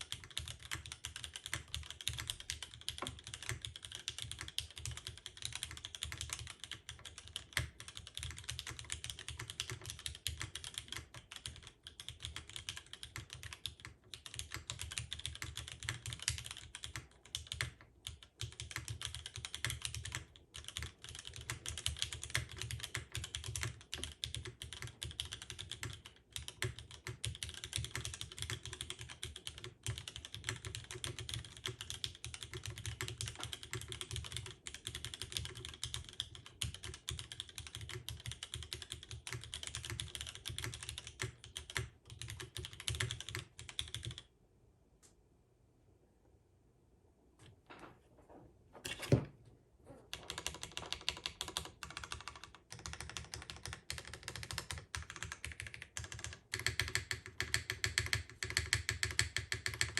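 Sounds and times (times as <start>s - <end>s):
mechanical keyboard typing: 0.0s - 44.3s, 50.1s - 59.9s.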